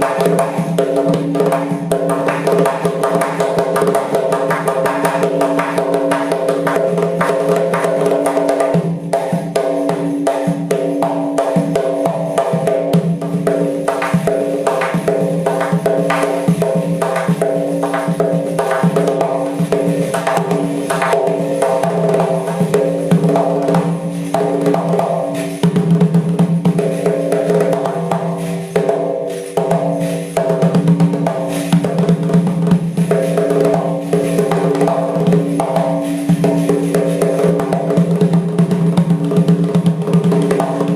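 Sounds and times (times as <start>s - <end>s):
frame drum with jingles: 0.0s - 40.9s.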